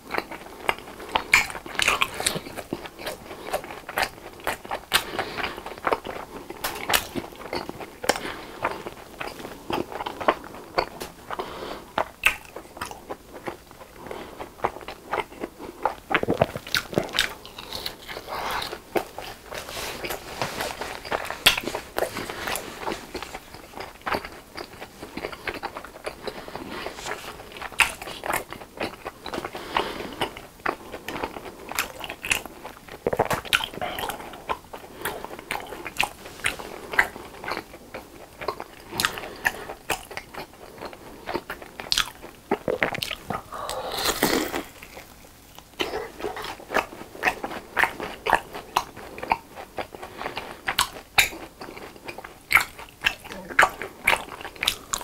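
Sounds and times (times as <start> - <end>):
crunching and chewing fried snack: 0.0 - 55.0.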